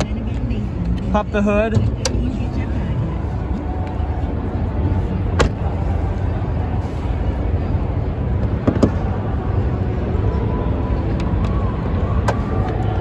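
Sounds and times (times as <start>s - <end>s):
indoor hall low rumble: 0.0s - 13.0s.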